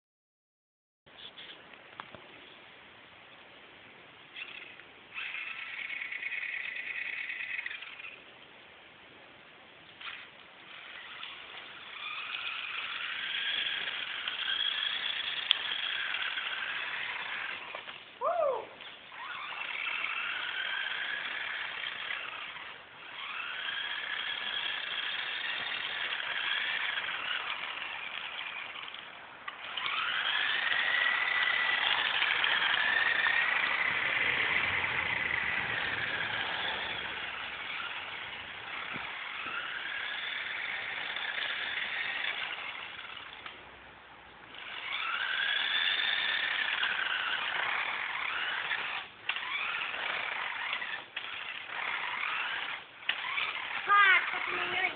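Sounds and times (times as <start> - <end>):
toy truck electric motor whining: 4.3 - 8.2, 10.0 - 43.7, 44.4 - 54.9.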